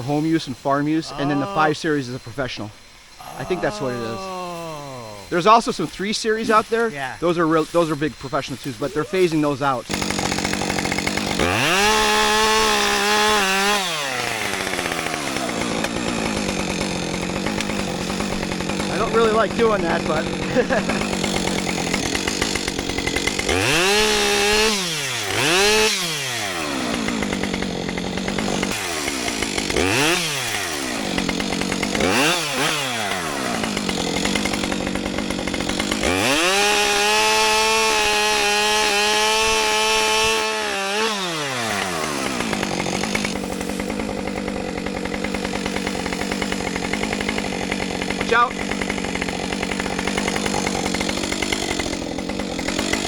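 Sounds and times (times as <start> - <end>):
chainsaw revving: 0.0 - 53.0.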